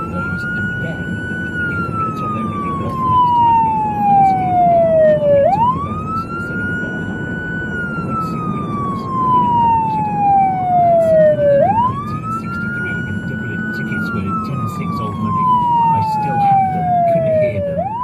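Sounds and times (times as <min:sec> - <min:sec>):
fire engine siren wailing: 0:00.0 - 0:18.0
low road rumble: 0:00.0 - 0:18.0.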